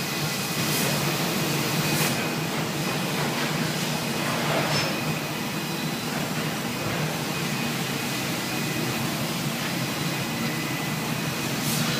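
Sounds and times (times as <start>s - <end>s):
laser cutting machine hum: 0.0s - 11.9s.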